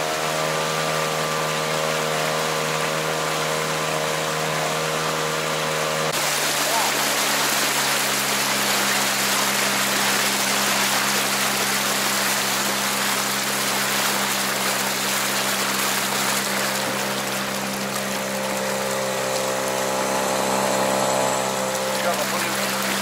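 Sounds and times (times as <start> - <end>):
outboard motor running: 0.0 - 23.0
water rushing along boat: 0.0 - 23.0.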